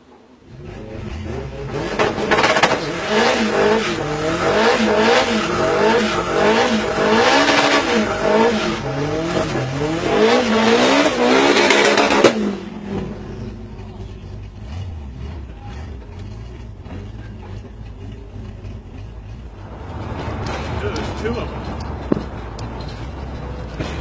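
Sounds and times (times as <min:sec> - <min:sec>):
car engine revving: 0:00.4 - 0:24.0.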